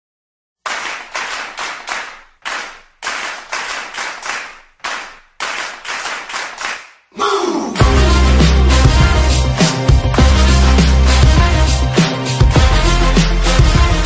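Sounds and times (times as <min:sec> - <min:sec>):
rhythmic echoing claps: 0:00.6 - 0:14.0.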